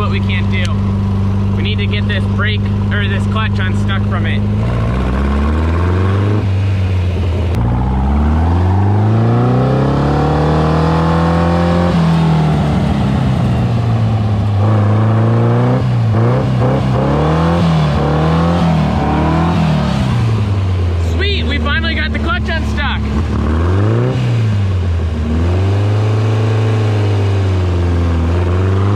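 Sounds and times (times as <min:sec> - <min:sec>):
dune buggy engine revving: 0:00.0 - 0:28.9.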